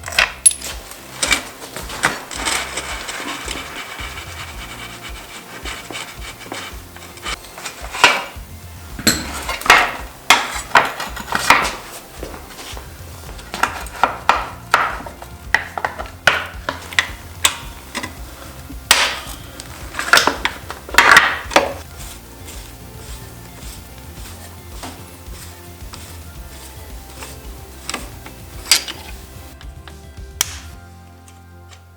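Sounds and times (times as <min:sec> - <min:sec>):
metal tools clanking: 0:00.0 - 0:29.6.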